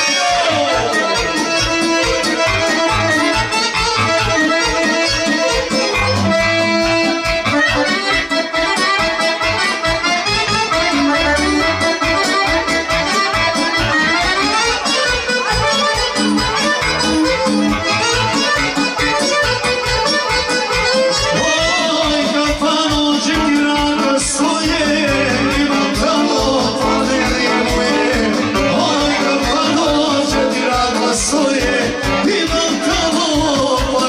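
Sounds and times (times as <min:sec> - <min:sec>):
band beat: 0:00.0 - 0:34.0
piano accordion folk melody: 0:00.0 - 0:34.0.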